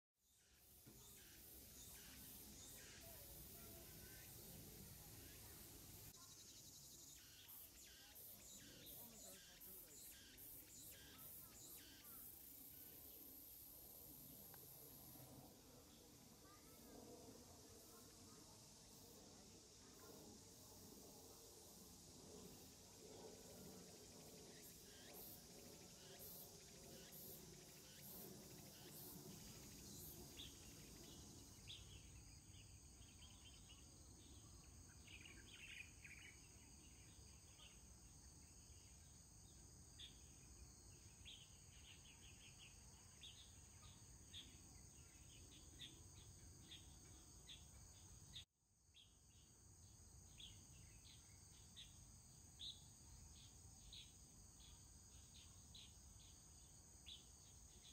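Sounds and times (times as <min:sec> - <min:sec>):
insect chirps: 0:00.2 - 0:57.9
insects droning: 0:00.2 - 0:57.9.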